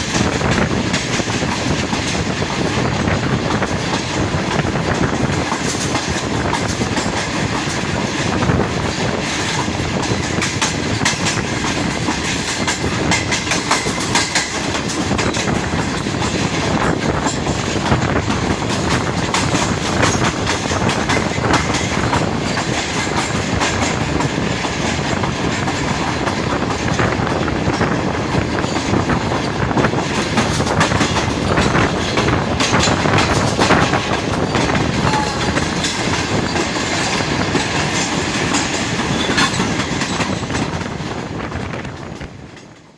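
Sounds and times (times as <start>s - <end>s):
train wheels clattering over rail joints: 0.0s - 42.9s.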